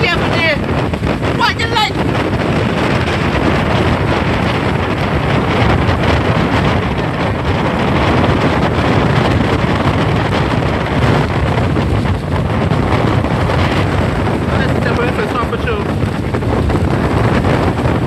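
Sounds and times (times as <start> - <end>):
heavy surf rushing: 0.0 - 18.0
strong wind into microphone: 0.0 - 18.0.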